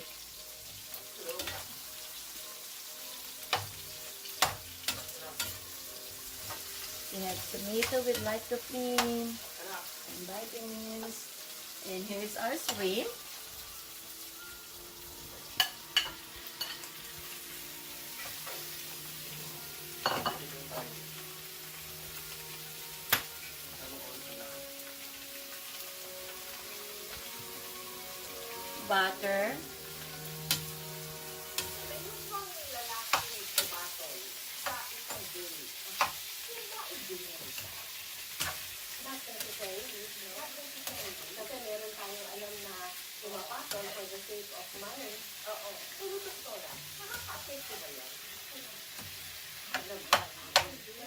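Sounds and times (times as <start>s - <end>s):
shrimp sizzling in a frying pan: 0.0s - 51.0s.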